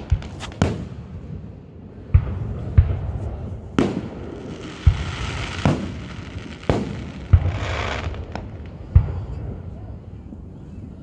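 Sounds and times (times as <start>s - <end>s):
fireworks bangs and thuds: 0.0s - 9.8s.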